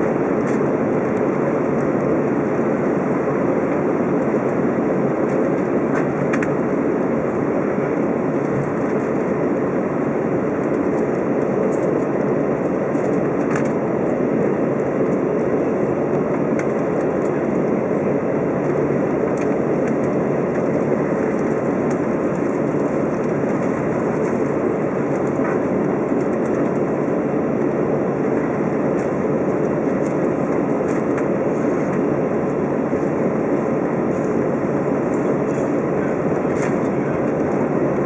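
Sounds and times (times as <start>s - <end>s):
airplane cabin noise taxiing: 0.0s - 38.0s.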